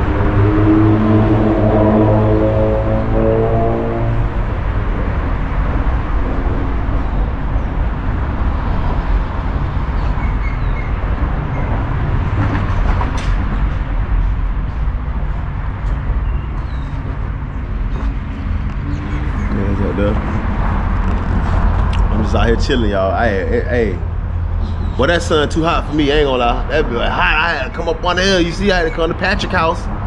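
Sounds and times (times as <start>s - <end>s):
traffic rumble on bridge overhead: 0.0s - 30.0s.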